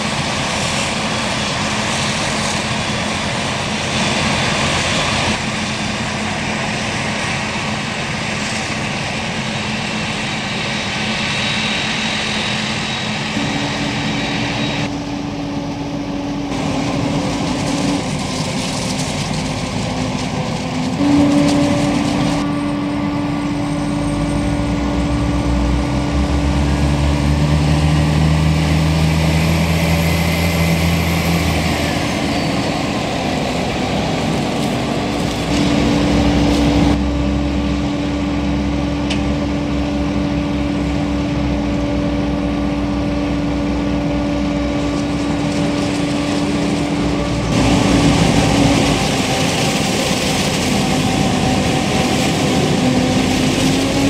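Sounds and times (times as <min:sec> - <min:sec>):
forage harvester drone: 0:00.0 - 0:54.0.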